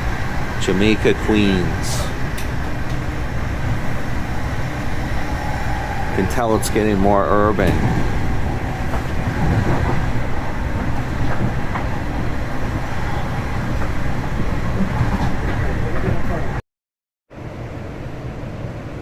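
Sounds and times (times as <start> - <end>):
train wheels rumbling on track: 0.0 - 16.6.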